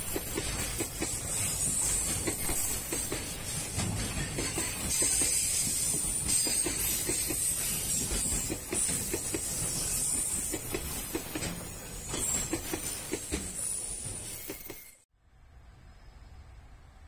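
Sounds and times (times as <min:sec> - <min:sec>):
train wheels clicking over rail joints: 0:00.0 - 0:15.0
low train rumble: 0:00.0 - 0:17.0.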